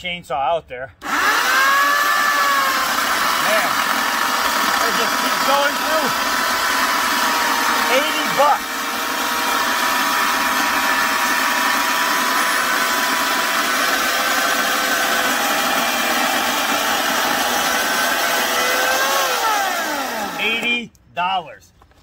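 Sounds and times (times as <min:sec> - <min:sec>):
electric chainsaw cutting log: 0:01.0 - 0:20.8.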